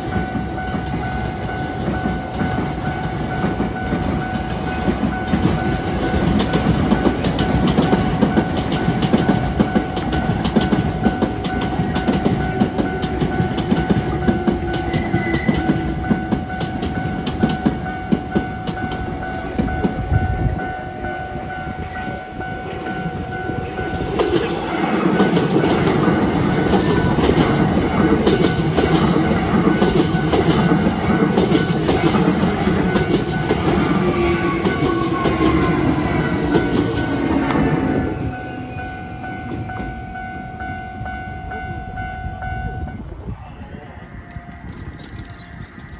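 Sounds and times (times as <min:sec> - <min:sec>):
train wheels clattering over rails: 0:00.0 - 0:22.0, 0:22.6 - 0:38.3
level crossing warning bell: 0:00.0 - 0:45.9.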